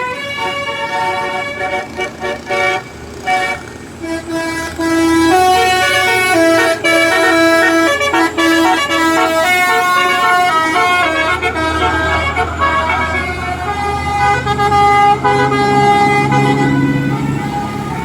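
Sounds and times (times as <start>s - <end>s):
bus musical horn: 0.0s - 18.0s.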